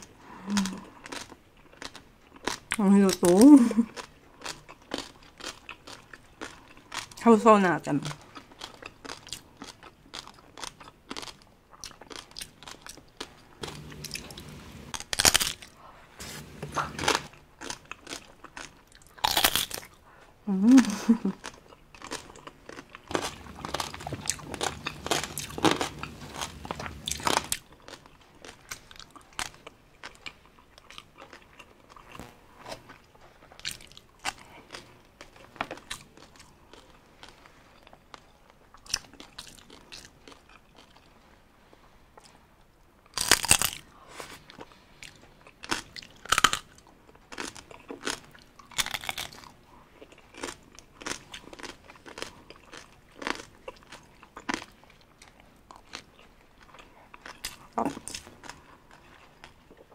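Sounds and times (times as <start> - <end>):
crunchy chewing of crispy skin: 0.0 - 7.3, 8.0 - 20.2, 20.8 - 59.9.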